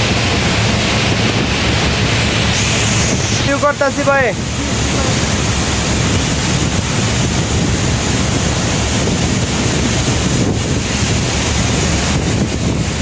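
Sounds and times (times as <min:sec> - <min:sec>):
steady loud rushing noise: 0:00.0 - 0:13.0.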